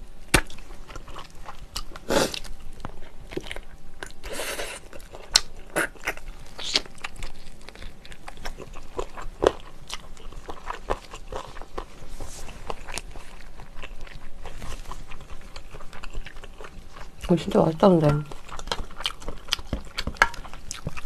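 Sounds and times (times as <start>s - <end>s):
person chewing and biting: 0.2s - 17.3s, 18.3s - 21.0s.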